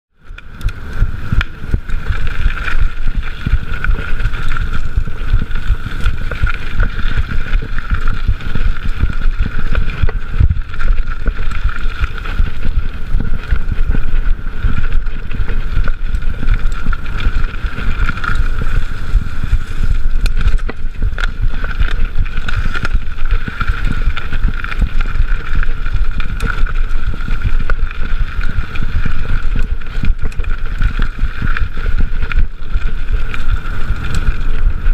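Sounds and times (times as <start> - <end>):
wind buffeting microphone: 0.2 - 34.9
bike rattling and knocking: 0.5 - 34.9.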